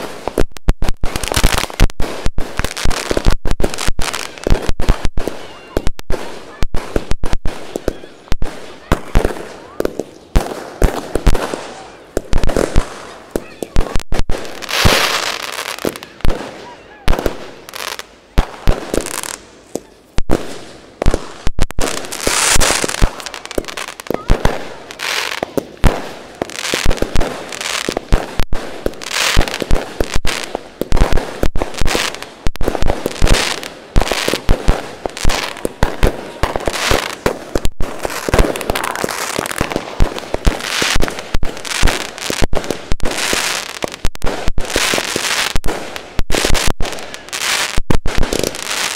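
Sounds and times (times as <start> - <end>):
fireworks bangs: 0.0 - 48.9
fireworks crackling: 0.0 - 48.9.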